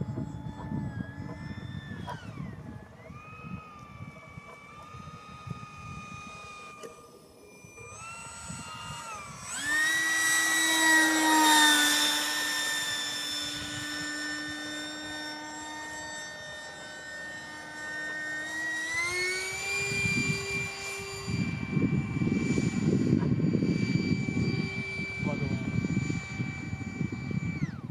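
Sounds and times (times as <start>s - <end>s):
model jet engine whine: 0.0s - 27.9s.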